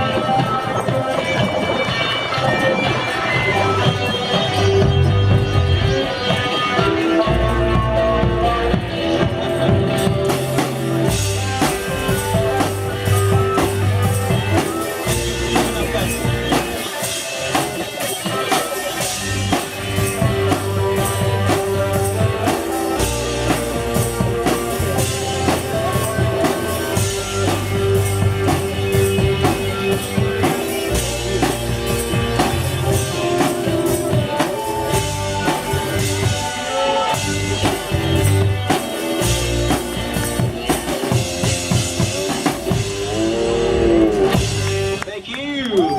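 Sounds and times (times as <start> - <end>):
drum kit beat: 0.0 - 45.3
guitar: 0.0 - 45.9
bass notes: 2.6 - 45.1.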